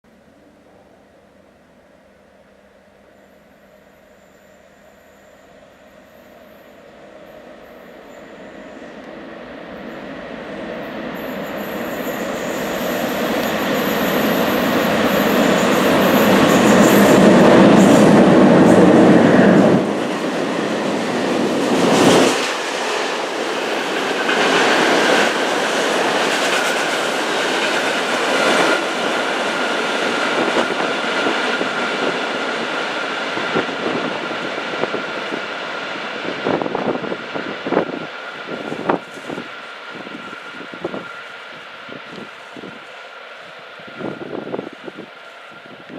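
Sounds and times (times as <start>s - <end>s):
freight train passing at speed: 0.1s - 45.9s.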